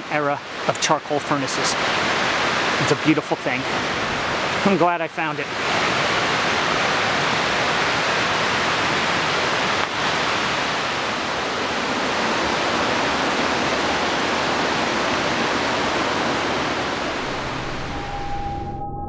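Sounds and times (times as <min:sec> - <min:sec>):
water rushing down dam: 0:00.0 - 0:17.9.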